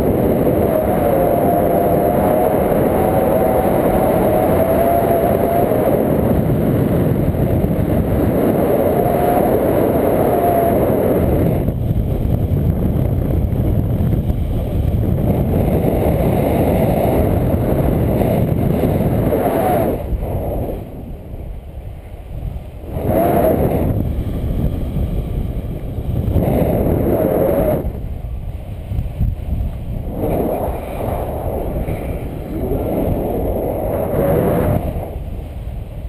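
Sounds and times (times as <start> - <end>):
wind rumbling over microphone: 0.0 - 36.0.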